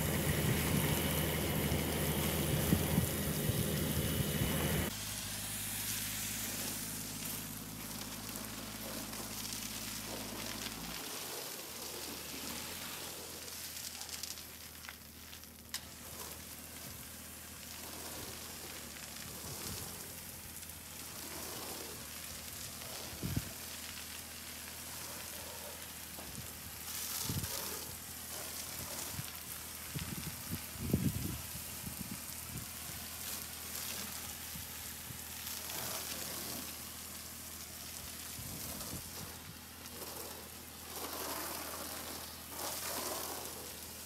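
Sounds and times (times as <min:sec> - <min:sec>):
pressure washer spray hissing: 0:00.0 - 0:13.8, 0:15.9 - 0:44.0
low engine hum: 0:00.0 - 0:44.0.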